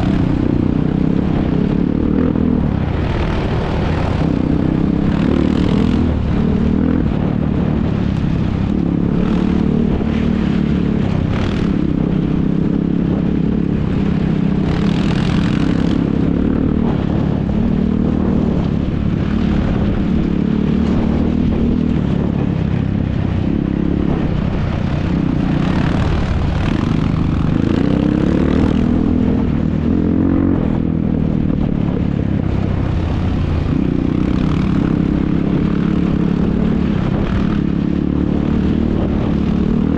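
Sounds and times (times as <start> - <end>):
atv engines revving: 0.0 - 39.9.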